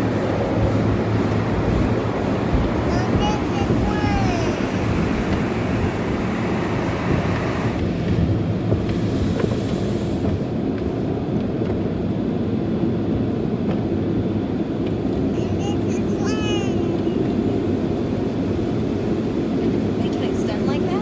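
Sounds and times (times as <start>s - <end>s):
car wash machinery rushing: 0.0s - 21.0s.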